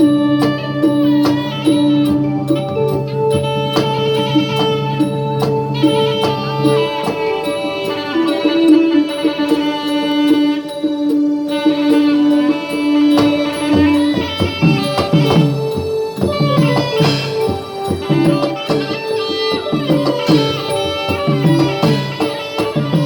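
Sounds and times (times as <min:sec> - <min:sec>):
ensemble melody: 0:00.0 - 0:23.0
hand drum strokes: 0:00.0 - 0:23.0
long held note: 0:00.0 - 0:23.0.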